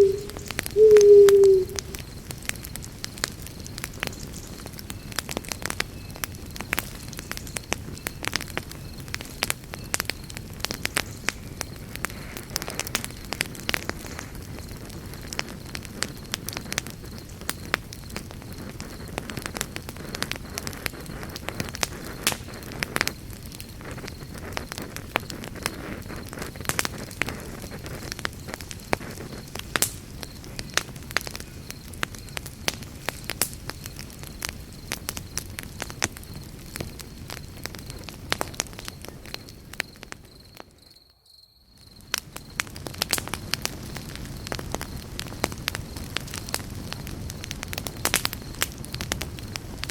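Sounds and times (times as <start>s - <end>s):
campfire crackling and popping: 0.0s - 41.1s, 41.8s - 49.9s.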